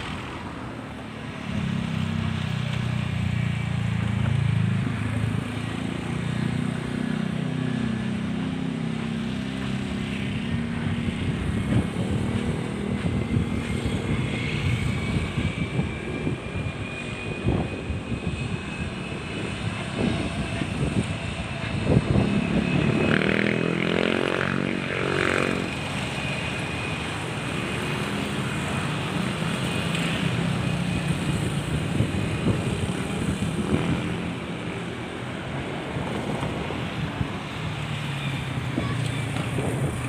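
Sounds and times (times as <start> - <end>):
airplane engines passing by: 0.0 - 40.0.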